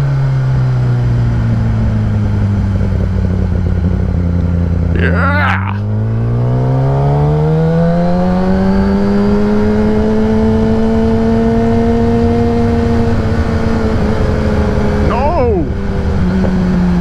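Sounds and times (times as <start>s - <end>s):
low rush of wind: 0.0s - 17.0s
motorcycle engine accelerating: 0.0s - 17.0s.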